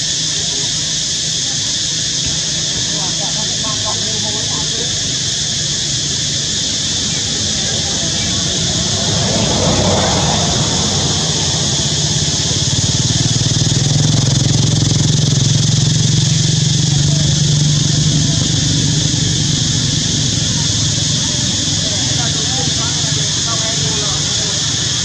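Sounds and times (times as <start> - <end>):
high hiss: 0.0 - 25.0
low engine drone: 0.0 - 25.0.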